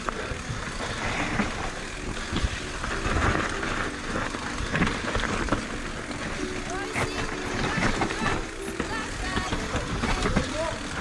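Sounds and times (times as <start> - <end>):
bike knocking over bumps: 0.0 - 11.0
bike tyres rolling over dirt: 0.0 - 11.0.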